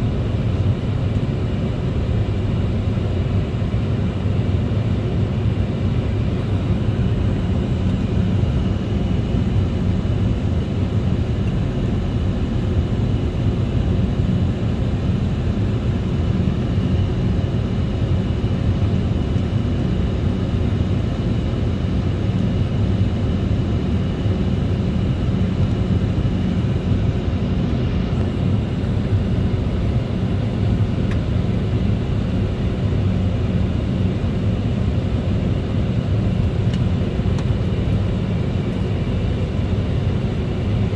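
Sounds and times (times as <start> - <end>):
airliner cabin engine rumble: 0.0 - 40.9
faint engine whining tones: 0.0 - 40.9.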